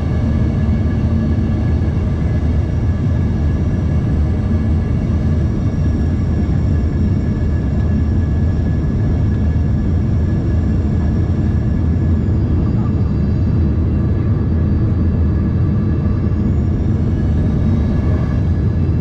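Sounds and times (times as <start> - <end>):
faint turbine whine: 0.0 - 19.0
jet cabin rumble: 0.0 - 19.0.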